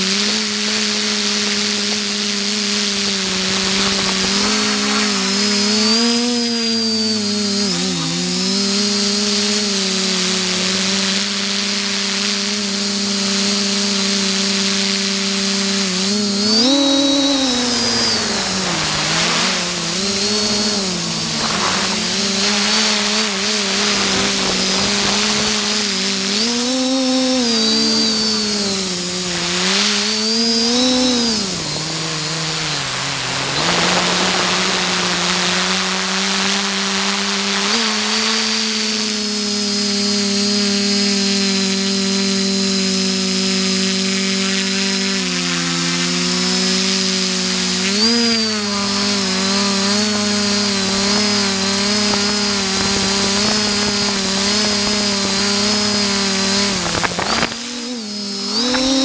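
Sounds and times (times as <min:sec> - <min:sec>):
drone motors buzzing: 0:00.0 - 0:59.0
thin high whine: 0:00.0 - 0:59.0.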